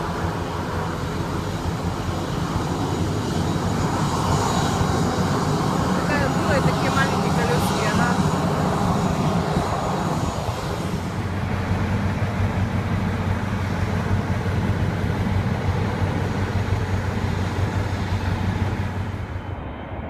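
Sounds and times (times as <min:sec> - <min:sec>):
jet engines during takeoff: 0:00.0 - 0:20.0.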